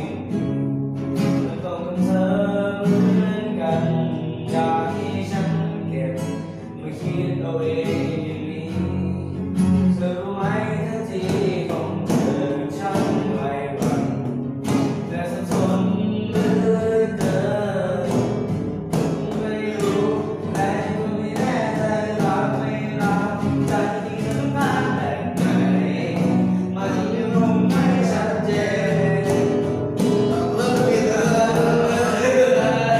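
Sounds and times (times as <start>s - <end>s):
man singing: 0.0s - 32.9s
strummed acoustic guitar: 0.0s - 32.9s.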